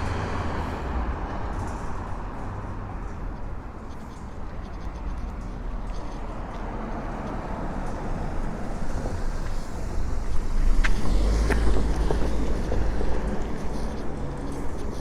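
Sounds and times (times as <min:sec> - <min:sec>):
street rumble: 0:00.0 - 0:15.0.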